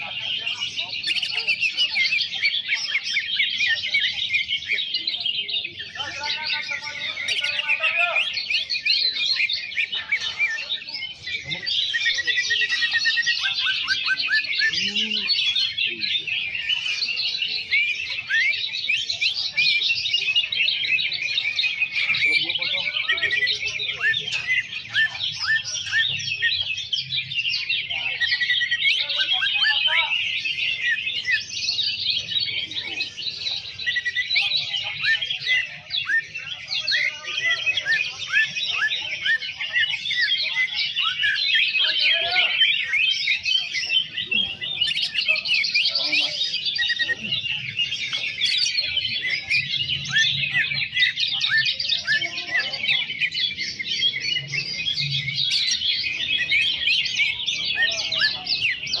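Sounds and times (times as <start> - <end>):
birds chirping and whistling: 0.0 - 59.0.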